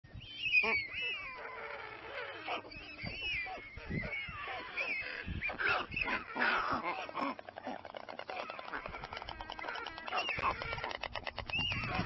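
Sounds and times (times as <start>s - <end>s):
stork chicks begging calls: 0.2s - 12.0s.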